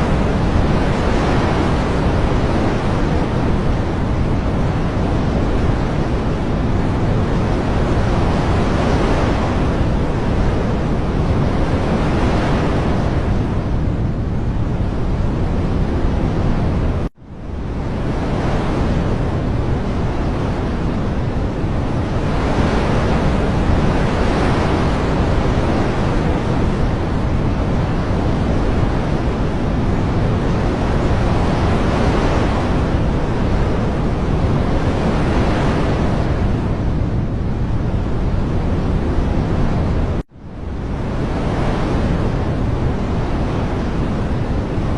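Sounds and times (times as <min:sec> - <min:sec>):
loud rushing nature ambience: 0:00.0 - 0:44.9.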